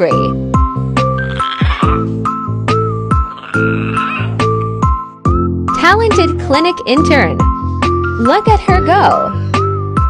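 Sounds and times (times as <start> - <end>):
bouncy background music: 0.0 - 10.0.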